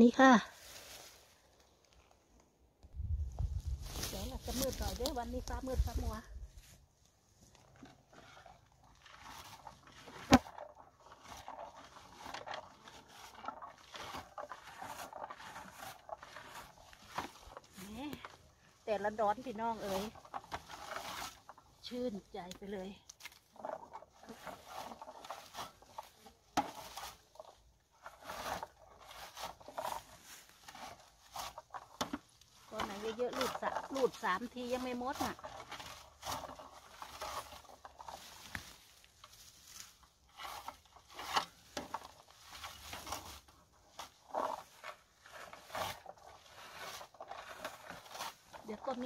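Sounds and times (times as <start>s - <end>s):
berry picker raking through bushes: 0.0s - 2.2s, 3.0s - 49.0s.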